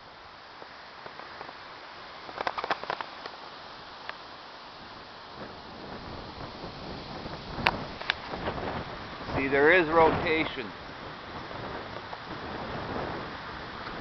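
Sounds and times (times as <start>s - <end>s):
outdoor wind noise: 0.0s - 14.0s.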